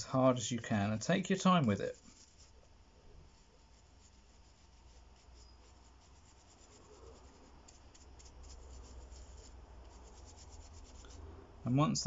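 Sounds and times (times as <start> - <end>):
brush scrubbing metal: 0.4 - 11.2.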